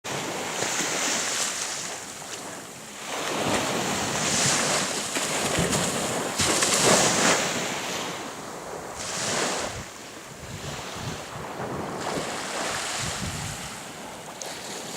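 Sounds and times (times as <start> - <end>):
waves washing onto shore: 0.1 - 14.9
wind on microphone: 0.1 - 14.9.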